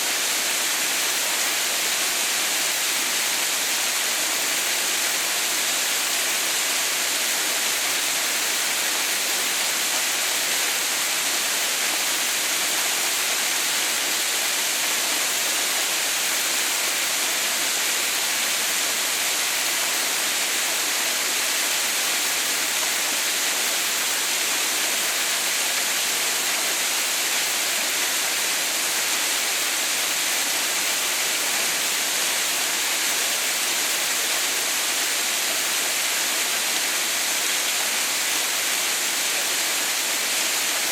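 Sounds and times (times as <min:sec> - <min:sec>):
waterfall splashing onto rocks: 0:00.0 - 0:40.9.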